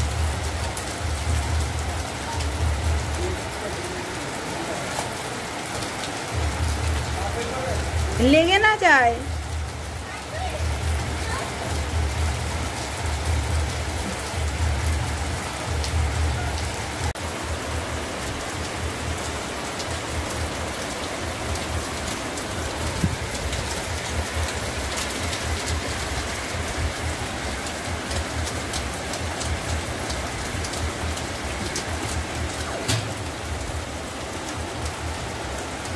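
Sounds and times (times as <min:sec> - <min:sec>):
heavy rain falling: 0:00.0 - 0:35.9
raindrops ticking close by: 0:00.0 - 0:35.9.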